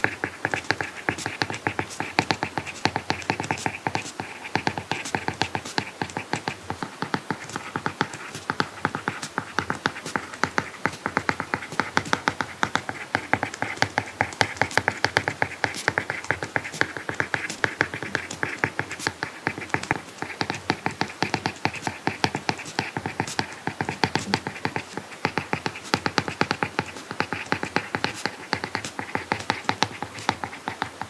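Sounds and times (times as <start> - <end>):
stylus tapping on tablet screen: 0.0 - 31.0.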